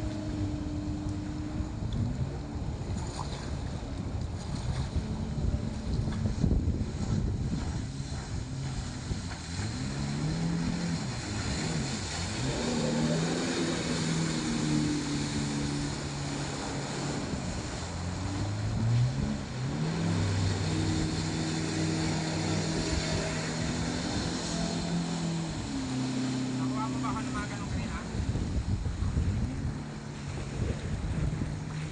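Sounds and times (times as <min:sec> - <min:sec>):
jet ski engine revving: 0:00.0 - 0:31.9
wind and water hiss: 0:00.0 - 0:31.9.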